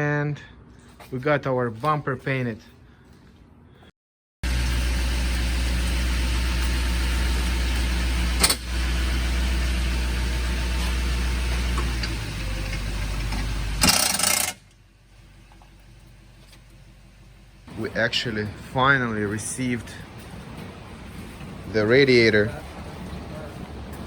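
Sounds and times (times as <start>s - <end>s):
vehicle engine humming: 4.4s - 24.0s.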